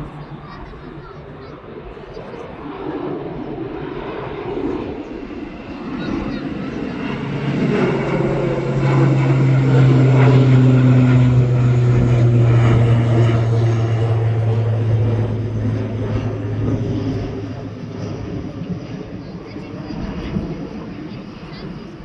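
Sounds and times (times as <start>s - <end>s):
propeller airliner taking off: 0.0s - 22.0s.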